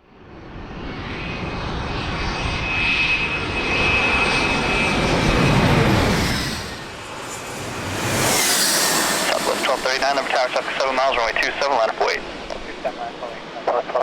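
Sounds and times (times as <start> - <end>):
jet engines passing: 0.1 - 14.0.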